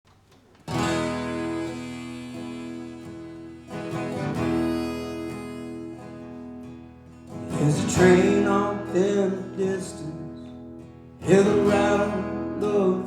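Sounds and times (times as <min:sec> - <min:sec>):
acoustic guitar strumming: 0:00.1 - 0:13.0.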